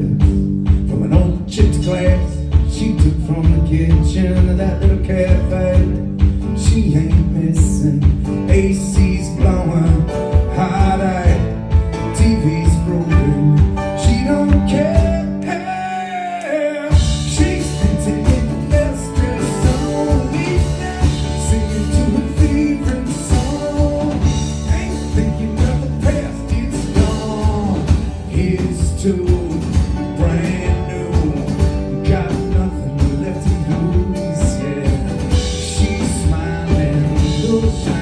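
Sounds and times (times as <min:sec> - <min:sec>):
drums: 0:00.0 - 0:15.8, 0:16.9 - 0:38.0
lead melody line: 0:00.0 - 0:16.0, 0:16.9 - 0:38.0
live band playing country rock: 0:00.0 - 0:16.2, 0:16.9 - 0:38.0
bass: 0:00.0 - 0:38.0
guitar: 0:00.0 - 0:38.0.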